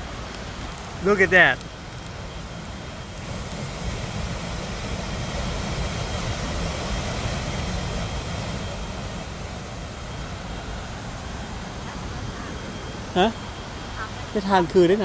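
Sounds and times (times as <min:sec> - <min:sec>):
river water: 0:00.0 - 0:15.0
waterfall roaring: 0:00.0 - 0:15.0.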